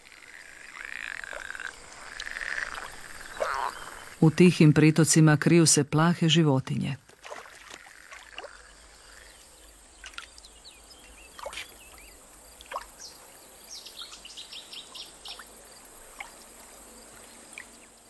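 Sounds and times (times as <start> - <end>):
wetland ambience: 0.0 - 18.0.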